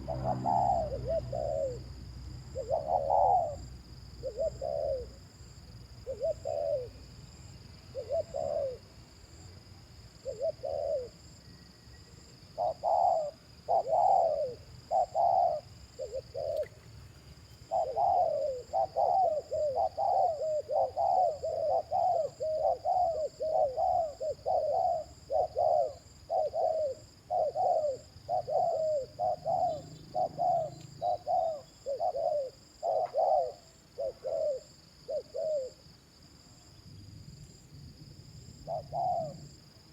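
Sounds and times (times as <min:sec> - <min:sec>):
dove cooing: 0:00.0 - 0:05.4, 0:06.0 - 0:07.1, 0:07.9 - 0:08.9, 0:10.2 - 0:11.3, 0:12.5 - 0:16.8, 0:17.6 - 0:35.9, 0:38.6 - 0:39.6.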